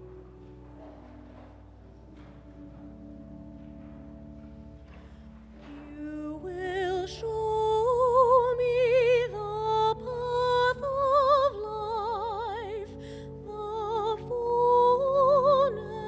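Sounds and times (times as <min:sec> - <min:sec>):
soft low accompaniment: 0:00.0 - 0:16.0.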